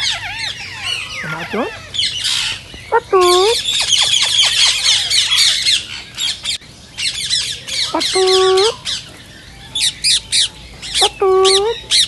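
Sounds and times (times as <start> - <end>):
parakeet voice-like call: 0.0 - 9.0, 9.6 - 12.0
parakeets squawking and chattering: 0.0 - 12.0.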